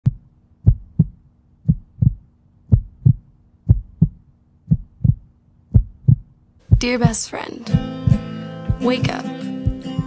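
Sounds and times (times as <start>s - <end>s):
heartbeat thumps: 0.0s - 10.0s.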